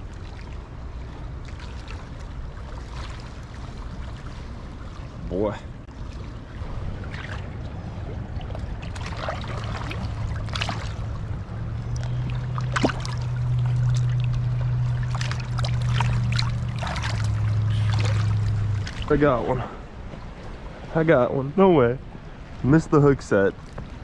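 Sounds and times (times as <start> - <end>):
river water rushing: 0.0 - 24.0
steady low hum: 0.0 - 24.0.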